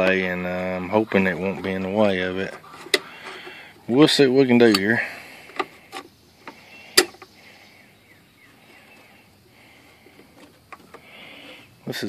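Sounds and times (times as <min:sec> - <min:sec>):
faint scraping rustle: 0:00.4 - 0:07.9, 0:08.5 - 0:12.0.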